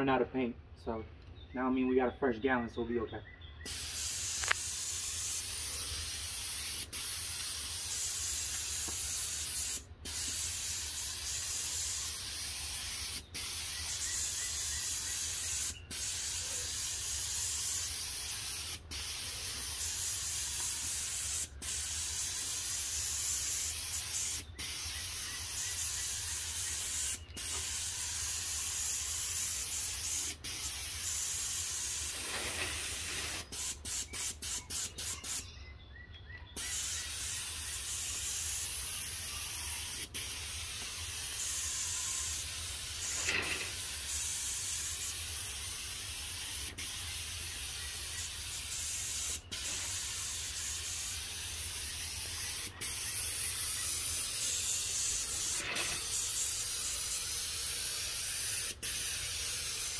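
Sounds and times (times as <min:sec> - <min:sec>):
paint sprayer hissing: 0:03.7 - 0:35.4, 0:36.6 - 0:59.9.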